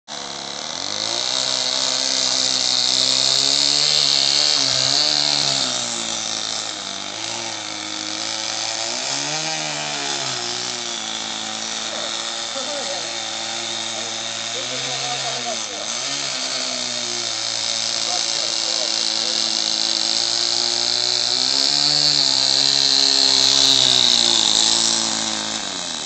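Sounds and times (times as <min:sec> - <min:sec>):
model airplane motor and propeller: 0:00.1 - 0:26.0.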